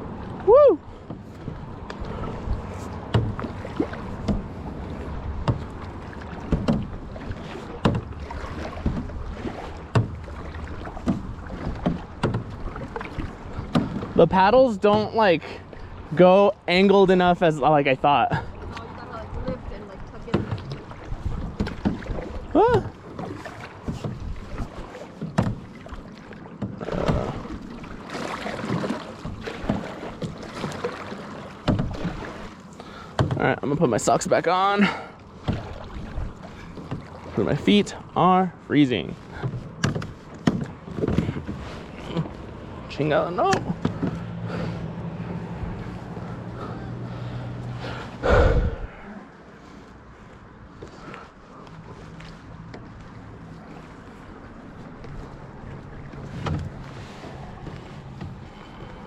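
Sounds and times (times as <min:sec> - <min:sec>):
paddle knocks and splashes: 0:00.0 - 0:49.0, 0:50.7 - 0:59.0
water and wind rushing: 0:00.0 - 0:59.0.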